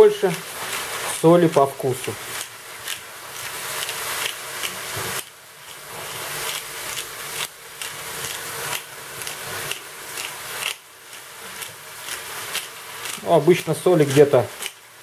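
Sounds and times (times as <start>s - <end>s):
pepper mill grinding: 0.0s - 15.0s.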